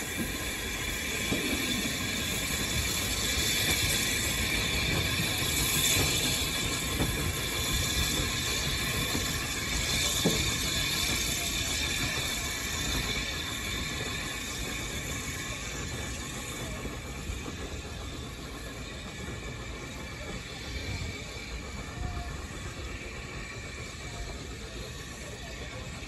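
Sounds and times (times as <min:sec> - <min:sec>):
train running on track: 0:00.0 - 0:26.0.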